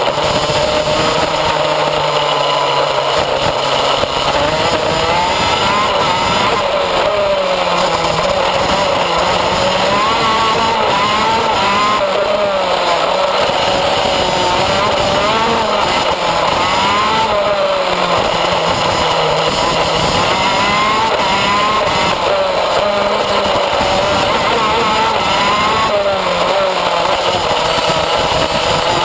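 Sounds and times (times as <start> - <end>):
kart engine accelerating: 0.0 - 29.0.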